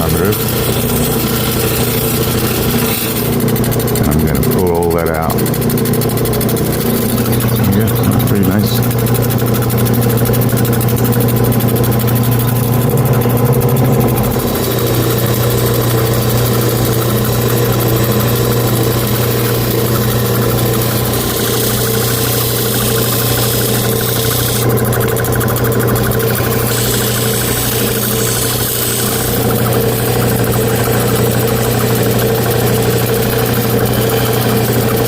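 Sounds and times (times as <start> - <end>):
grinding wheel motor humming: 0.0 - 35.0.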